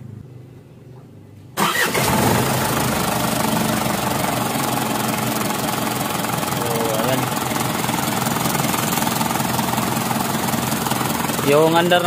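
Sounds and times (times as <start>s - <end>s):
diesel engine starting and idling: 1.6s - 12.0s.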